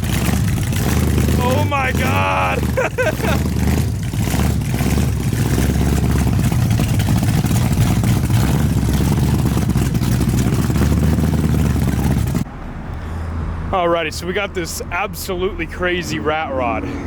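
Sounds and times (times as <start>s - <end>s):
loud engine rumbling: 0.0s - 17.0s.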